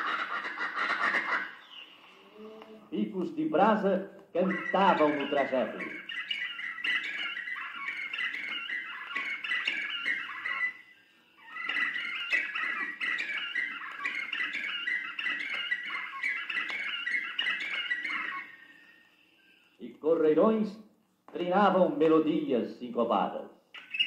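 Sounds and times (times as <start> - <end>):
birds chattering chorus: 0.0 - 20.7, 23.7 - 24.0.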